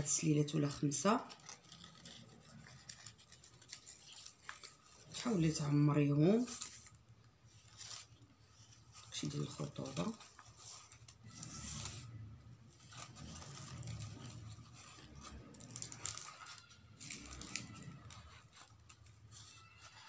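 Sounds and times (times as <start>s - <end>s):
ribbon rustling and crinkling: 0.0s - 20.0s.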